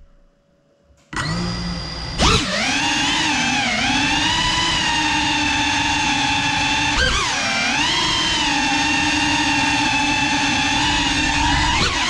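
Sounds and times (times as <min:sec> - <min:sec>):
quadcopter motors whining: 0:01.2 - 0:12.0.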